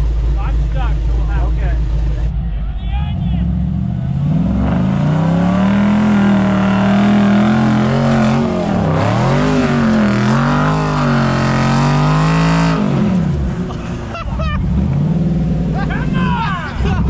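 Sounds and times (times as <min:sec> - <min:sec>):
truck engine revving hard: 0:00.7 - 0:17.0.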